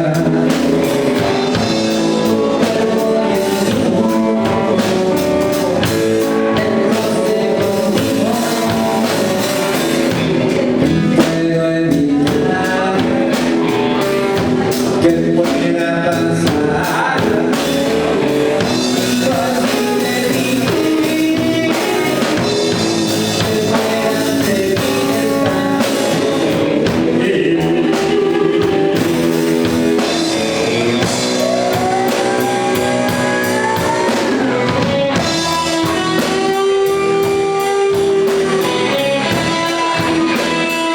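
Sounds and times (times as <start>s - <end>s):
blues band with guitar and drums: 0.0s - 40.9s
person singing: 0.0s - 40.9s.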